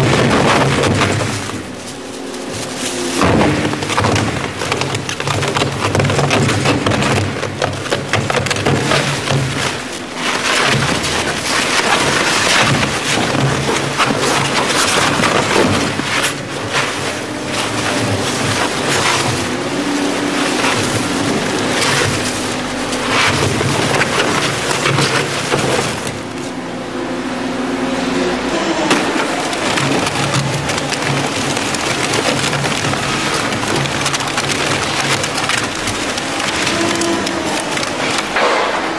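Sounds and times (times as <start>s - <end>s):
shredder crackling and ripping: 0.0s - 27.0s, 27.6s - 38.9s
low drive hum: 0.0s - 38.9s.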